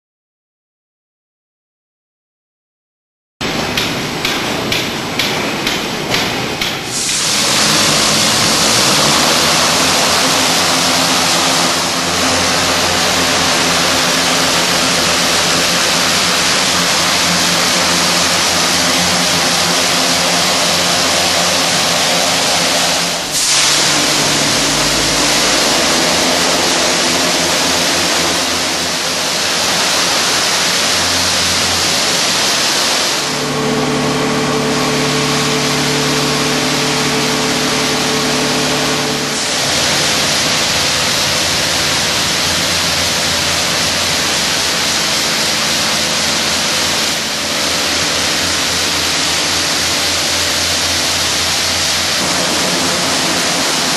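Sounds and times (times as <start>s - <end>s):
low machine hum: 3.4s - 53.9s
high-pressure water spray hissing: 6.7s - 33.4s, 34.8s - 53.9s.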